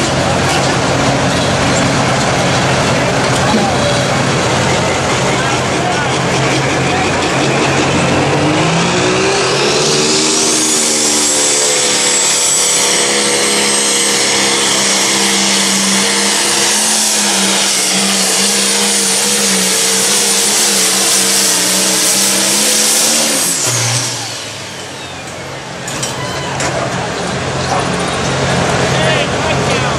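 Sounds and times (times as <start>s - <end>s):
diesel tractor engine at full throttle: 0.0s - 29.9s.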